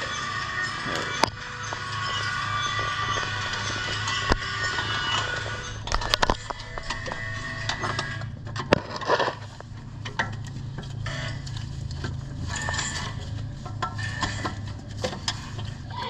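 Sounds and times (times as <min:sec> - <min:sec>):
metal tools clinking and scraping: 0:00.0 - 0:15.9.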